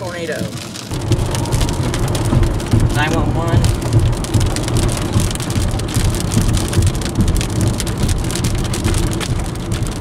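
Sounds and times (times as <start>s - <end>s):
car rumbling on road: 0.0s - 10.0s
rain on car windshield: 0.0s - 10.0s.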